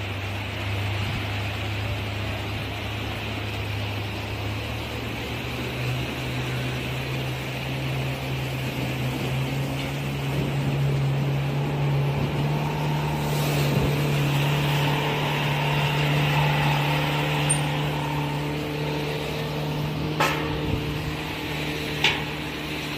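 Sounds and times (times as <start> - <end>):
motor hum: 0.0 - 22.9
rushing noise: 0.0 - 22.9.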